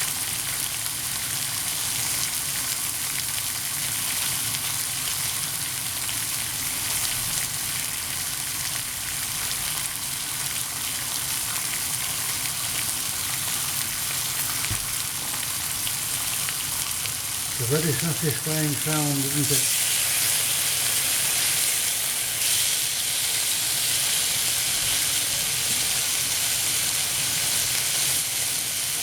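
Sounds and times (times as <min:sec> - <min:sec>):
bacon sizzling in a frying pan: 0:00.0 - 0:29.0.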